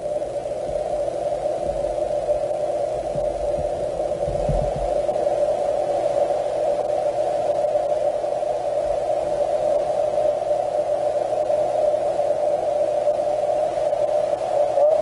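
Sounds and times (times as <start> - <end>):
hiss of water flow in pipe: 0.0 - 15.0.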